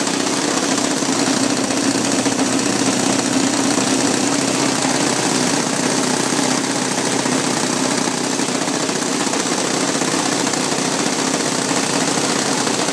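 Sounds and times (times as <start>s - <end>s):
model aircraft engines running: 0.0s - 12.9s.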